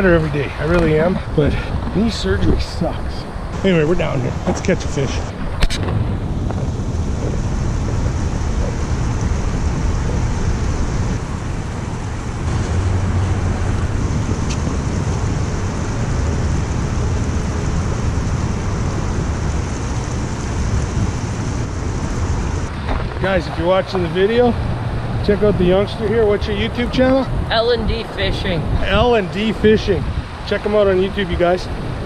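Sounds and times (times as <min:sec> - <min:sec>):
highway traffic on bridge: 0:00.0 - 0:32.0
wind rumbling on microphone: 0:00.0 - 0:32.0.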